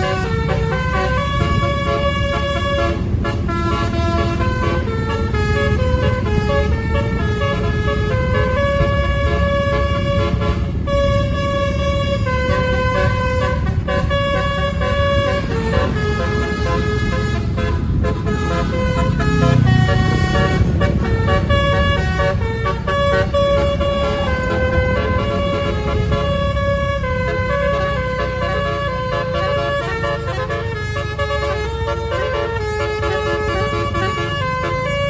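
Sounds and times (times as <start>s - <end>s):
bus engine rumble: 0.0s - 35.0s
multi-tone air horn playing tune: 0.0s - 35.0s.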